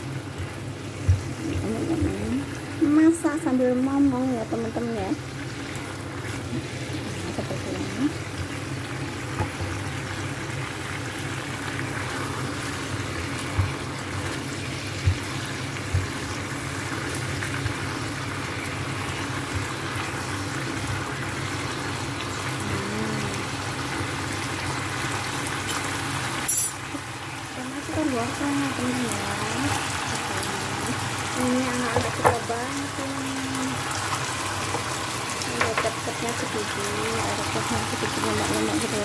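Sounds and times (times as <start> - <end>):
sauce simmering in a frying pan: 0.0 - 39.0.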